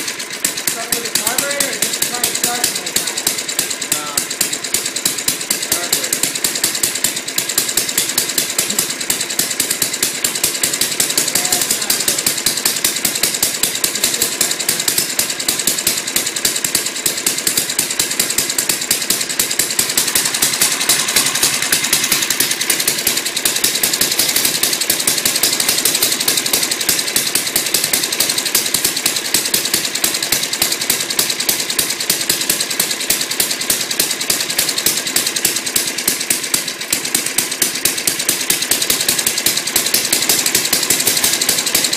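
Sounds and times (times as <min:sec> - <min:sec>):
lawnmower engine running: 0:00.0 - 0:41.9.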